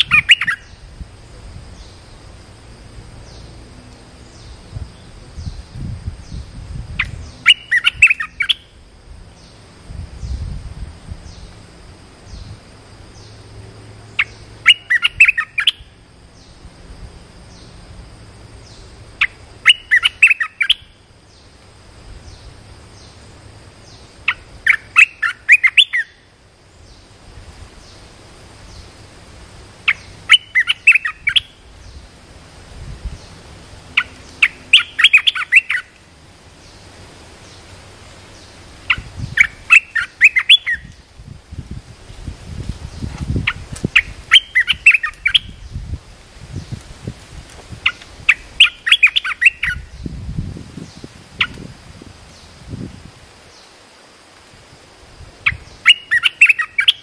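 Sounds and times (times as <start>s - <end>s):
songbird chirping: 0.0s - 16.8s, 17.4s - 29.2s, 29.8s - 32.4s, 33.0s - 41.2s, 42.7s - 46.9s, 47.8s - 54.1s, 55.4s - 57.0s.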